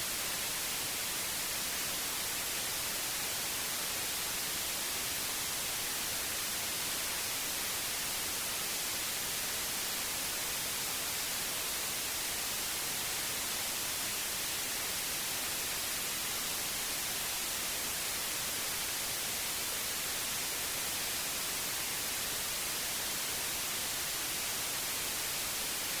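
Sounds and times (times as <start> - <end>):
steady white noise hiss: 0.0 - 26.0.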